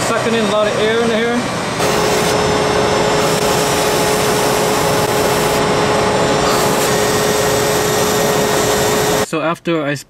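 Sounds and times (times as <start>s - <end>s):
blower fan rushing: 0.0s - 9.3s
steady whine: 0.0s - 9.3s.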